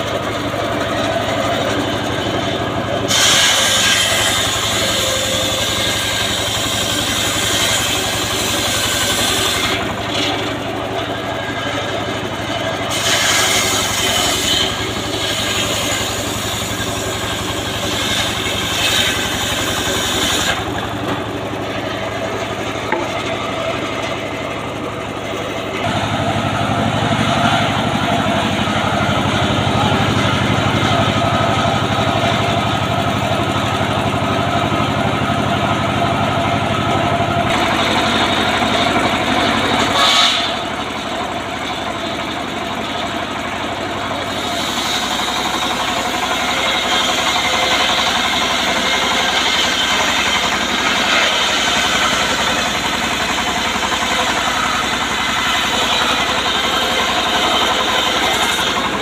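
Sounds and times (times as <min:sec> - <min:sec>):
engine running steadily: 0:00.0 - 0:59.0
saw blade cutting wood: 0:00.0 - 0:59.0.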